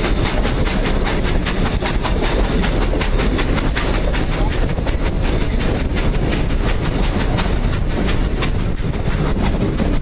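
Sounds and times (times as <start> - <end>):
sharp rail clicks: 0.0 - 10.0
train wheels rumbling on rails: 0.0 - 10.0
wind buffeting microphone: 0.0 - 10.0.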